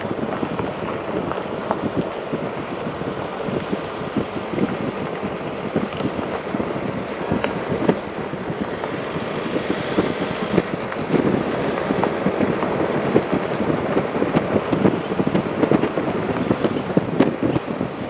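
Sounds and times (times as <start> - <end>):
steady rain: 0.0 - 18.0
wind on microphone: 0.0 - 18.0.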